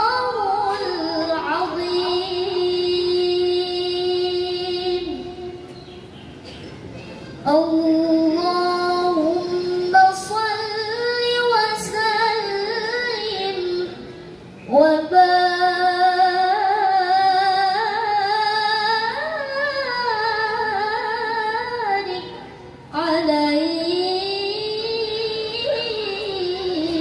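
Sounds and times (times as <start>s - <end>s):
woman reciting melodically over speakers: 0.0s - 6.2s, 7.3s - 27.0s.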